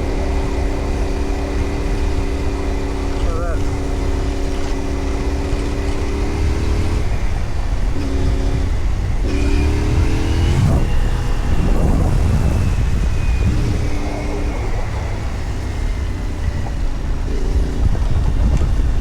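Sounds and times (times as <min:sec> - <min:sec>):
low wind rumble: 0:00.0 - 0:19.0
motorcycle engine running: 0:00.0 - 0:19.0.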